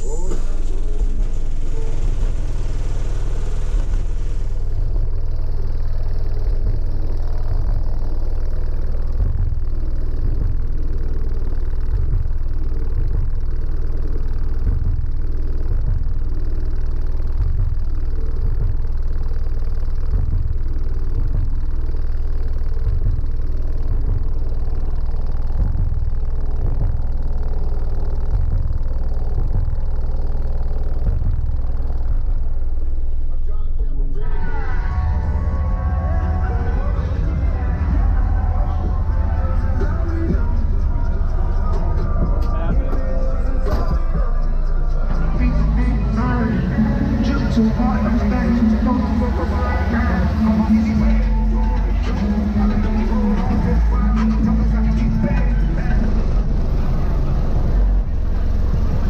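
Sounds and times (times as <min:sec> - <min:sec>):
bass-heavy music from subwoofers: 0:00.0 - 0:59.0.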